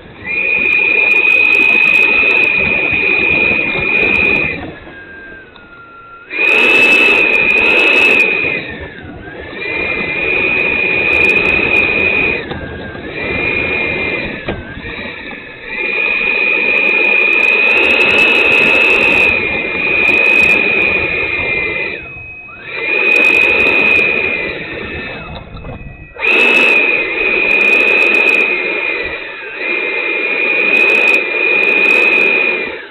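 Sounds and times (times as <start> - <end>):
electric ducted fans whining: 0.0 - 32.9.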